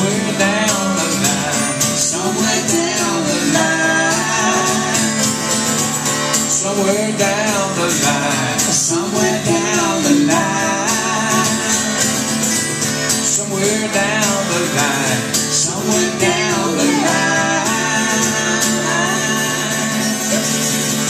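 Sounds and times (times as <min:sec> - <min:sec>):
man singing: 0:00.0 - 0:05.5, 0:06.3 - 0:21.0
guitar playing: 0:00.0 - 0:21.0.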